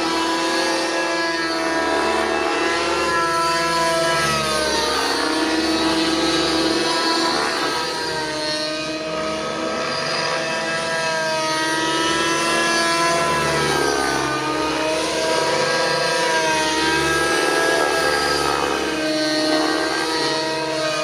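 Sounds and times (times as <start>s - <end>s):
model helicopter engine and rotor: 0.0s - 21.0s.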